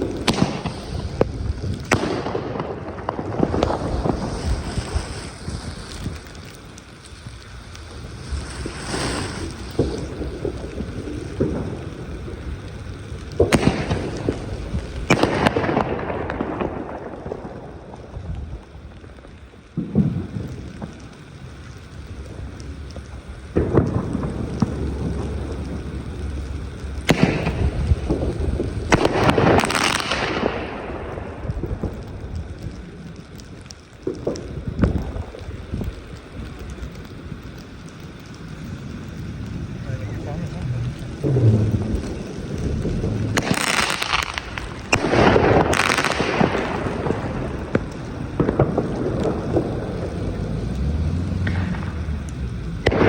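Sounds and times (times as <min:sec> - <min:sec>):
firework bangs: 0:00.0 - 0:53.0
firework crackling: 0:00.0 - 0:53.0.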